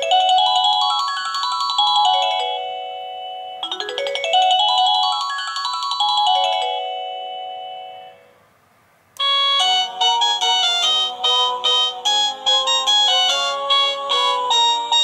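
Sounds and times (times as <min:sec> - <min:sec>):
electronic doorbell chime tunes: 0:00.0 - 0:08.4, 0:09.2 - 0:15.0.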